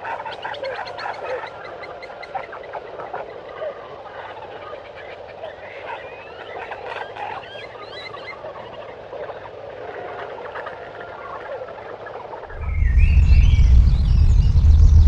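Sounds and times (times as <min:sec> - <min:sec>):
steady hiss of calling animals: 0:00.0 - 0:12.5.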